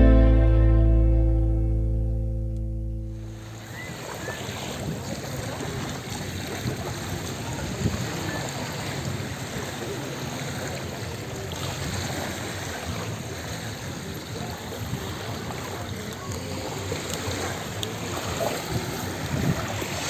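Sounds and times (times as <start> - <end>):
waves washing on pebbly beach: 3.4 - 20.0.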